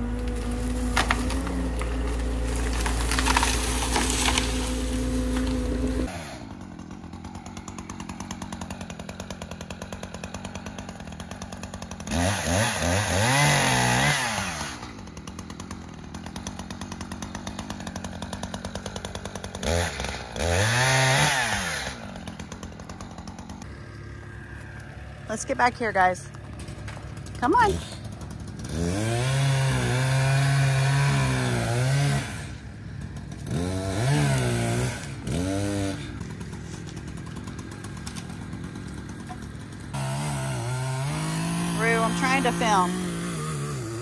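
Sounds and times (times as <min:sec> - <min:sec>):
chainsaw running and revving: 0:00.0 - 0:44.0.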